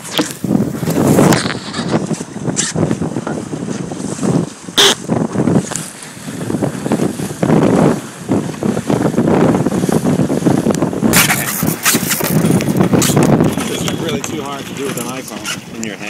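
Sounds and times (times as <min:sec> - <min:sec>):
water rushing past hull: 0:00.0 - 0:16.0
wind buffeting microphone: 0:00.0 - 0:16.0.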